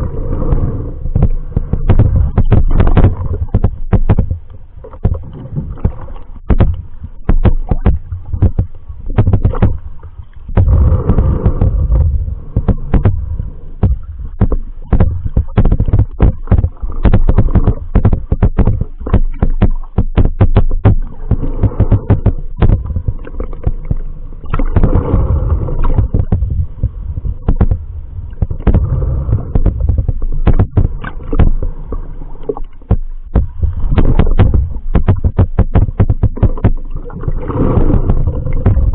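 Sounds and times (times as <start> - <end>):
underwater rumbling surges: 0.0 - 38.9
sharp clicks and knocks: 1.1 - 36.9, 37.6 - 38.9.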